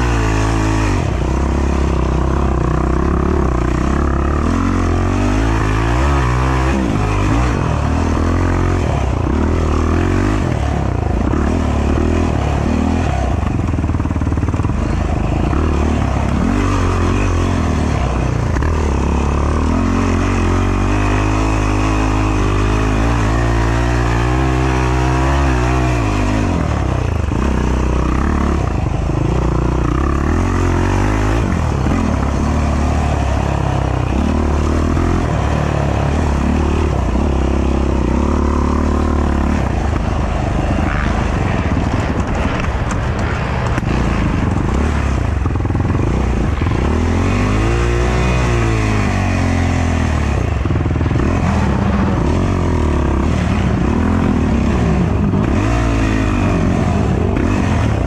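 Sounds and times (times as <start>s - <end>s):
quad engine revving: 0.0s - 58.0s.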